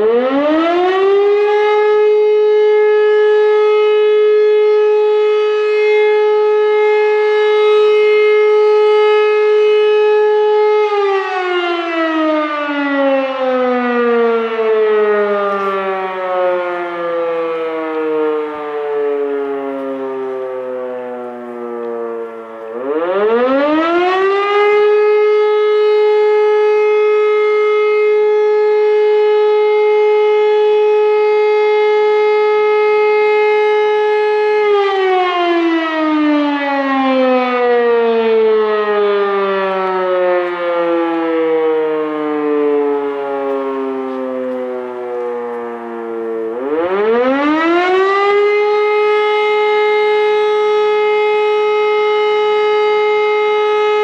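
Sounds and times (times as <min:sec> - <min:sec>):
electro-mechanical siren wailing: 0:00.0 - 0:54.0.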